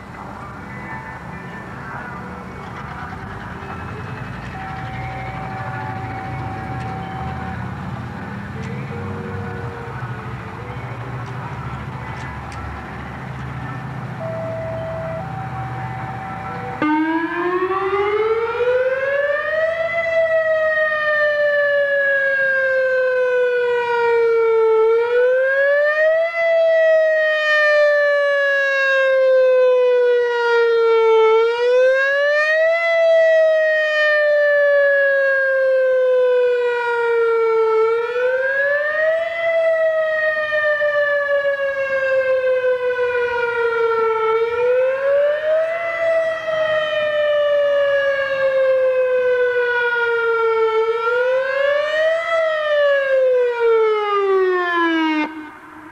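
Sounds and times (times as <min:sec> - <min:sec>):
electronic siren wailing: 0:02.0 - 0:55.7.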